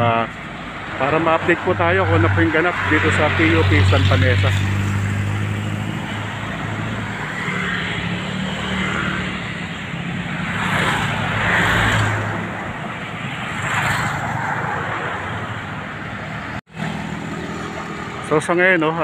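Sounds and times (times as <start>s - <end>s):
traffic passing: 0.0s - 19.0s.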